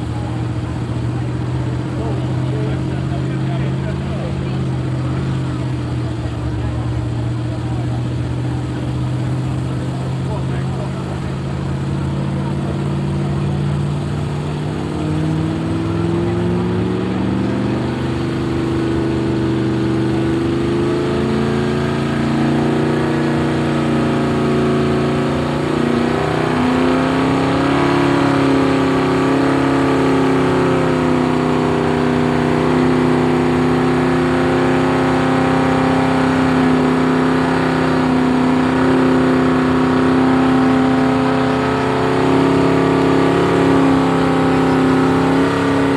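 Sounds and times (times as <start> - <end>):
car engine revving: 0.0 - 45.9
lower engine note: 0.0 - 45.9.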